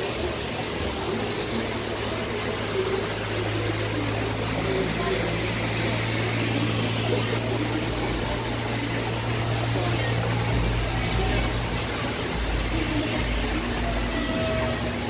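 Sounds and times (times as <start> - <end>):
low machine hum: 0.0 - 15.0
murmur of distant voices: 0.0 - 15.0.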